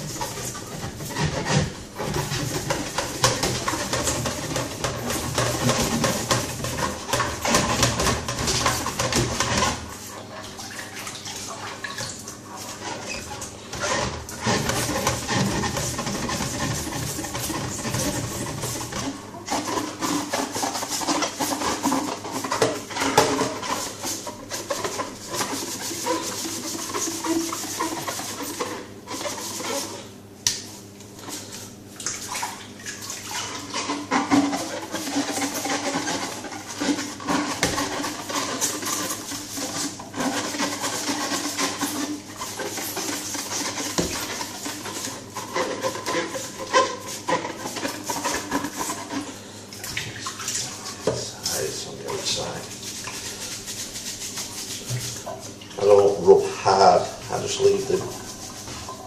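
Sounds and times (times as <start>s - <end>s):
scouring pad scrubbing plastic tube: 0.0s - 30.1s, 30.8s - 59.0s.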